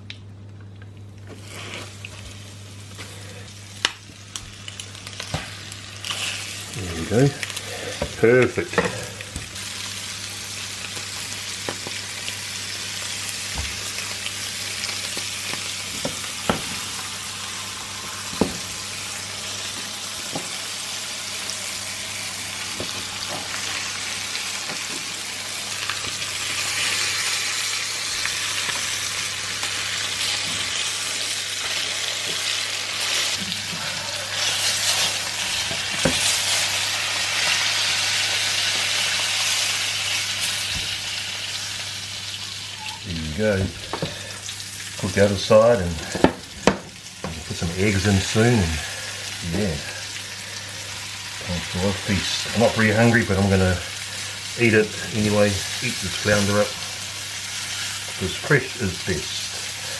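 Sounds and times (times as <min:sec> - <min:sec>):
fish sizzling in hot oil: 0:01.4 - 0:59.9.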